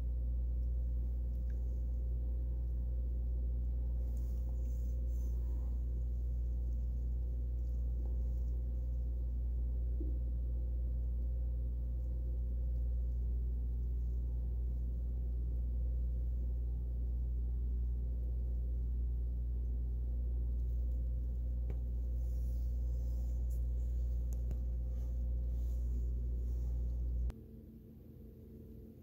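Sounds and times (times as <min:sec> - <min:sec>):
faint steady tones: 0:00.0 - 0:29.0
low mechanical hum: 0:00.0 - 0:29.0.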